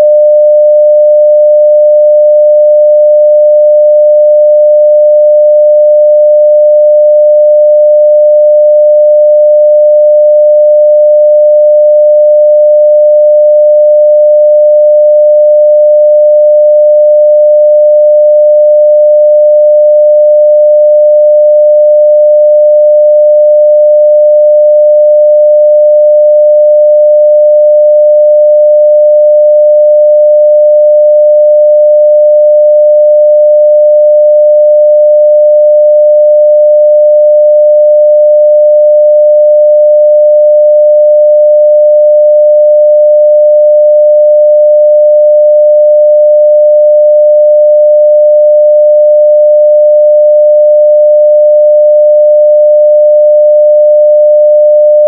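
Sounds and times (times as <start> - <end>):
sine test tone: 0.0 - 55.0.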